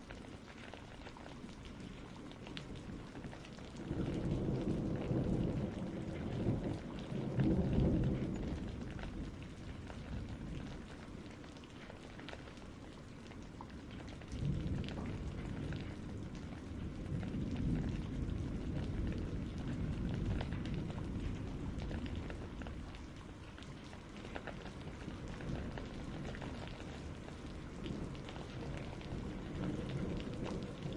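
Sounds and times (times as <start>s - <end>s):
steady rain: 0.0s - 30.9s
thunder rumbling: 2.8s - 11.4s, 13.4s - 30.9s.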